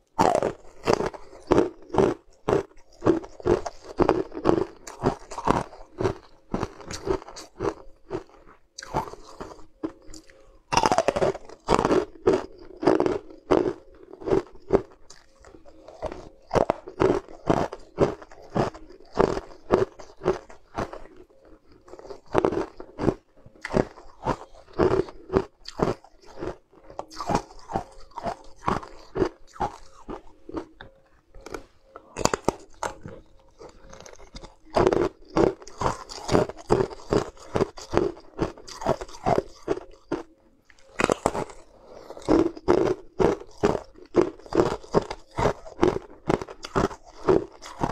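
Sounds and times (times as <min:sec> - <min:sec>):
chewing and crunching hard candy: 0:00.0 - 0:47.9.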